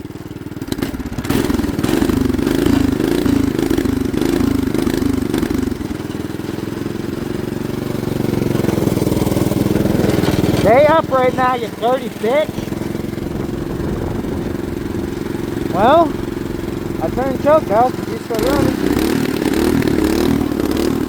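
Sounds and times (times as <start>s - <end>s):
small engine running rough: 0.0s - 21.0s.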